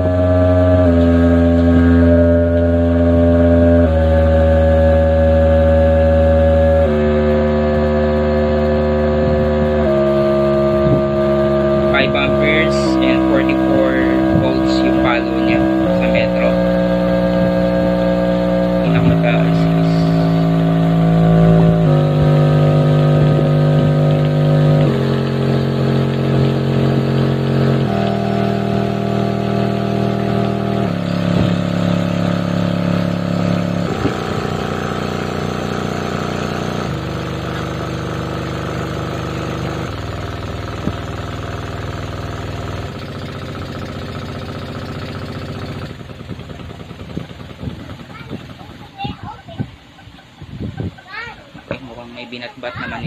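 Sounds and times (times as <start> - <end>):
speaker cone fluttering: 0.0 - 53.0
subwoofer low test tone hum: 0.0 - 53.0.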